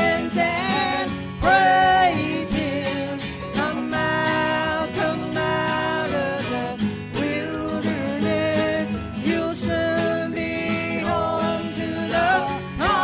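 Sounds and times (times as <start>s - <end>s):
country gospel band playing: 0.0s - 13.0s.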